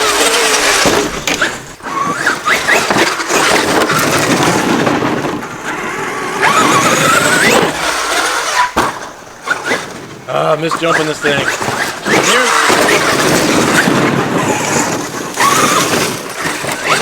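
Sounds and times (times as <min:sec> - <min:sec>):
electric toy truck motor whining: 0:00.0 - 0:17.0
tyres rushing over dirt: 0:00.0 - 0:17.0.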